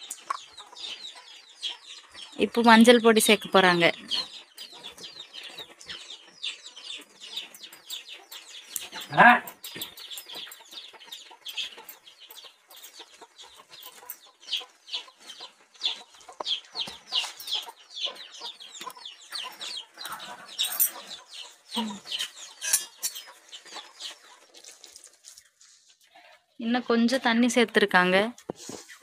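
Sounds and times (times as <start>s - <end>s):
chickens clucking: 0.0s - 26.6s.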